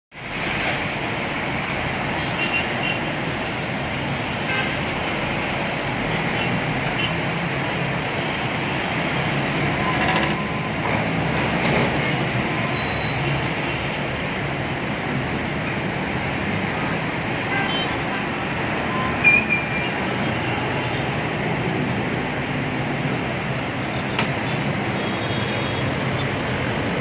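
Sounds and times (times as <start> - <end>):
traffic engines and tyres rumbling: 0.1 - 27.0.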